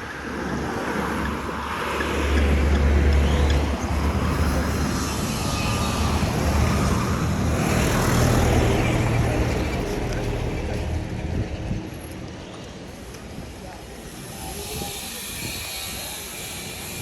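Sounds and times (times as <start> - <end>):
traffic passing: 0.0 - 17.0
vehicle engine rumbling: 0.5 - 16.0.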